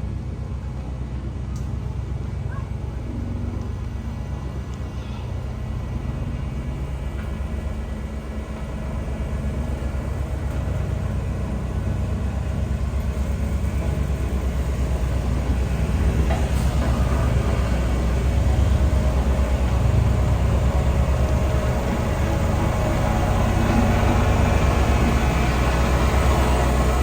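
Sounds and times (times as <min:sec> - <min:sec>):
bulldozer diesel engine throbbing: 0:02.1 - 0:27.0.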